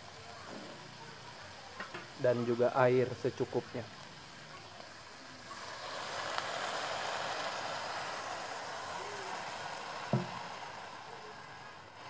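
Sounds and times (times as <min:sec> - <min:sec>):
water sizzling in hot wok: 0:00.0 - 0:12.0.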